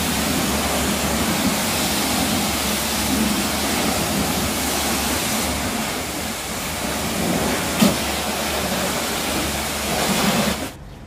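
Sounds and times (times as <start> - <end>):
pressure washer spraying hiss: 0.0 - 10.7.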